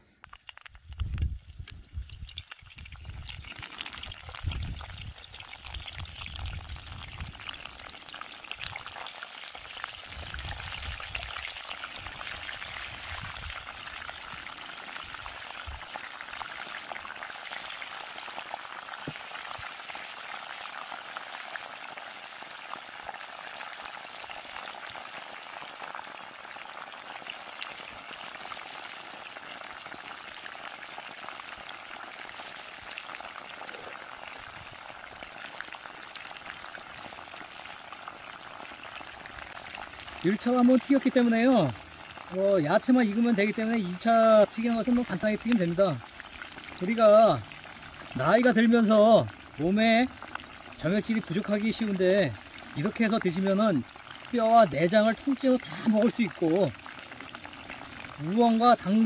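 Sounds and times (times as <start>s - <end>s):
food sizzling in hot oil: 0.3s - 59.0s.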